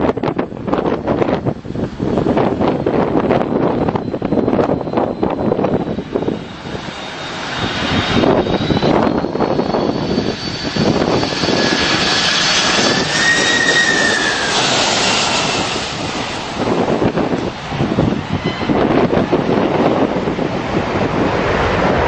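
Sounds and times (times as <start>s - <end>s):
airplane engine noise: 0.0s - 22.0s
high engine whine: 0.0s - 22.0s.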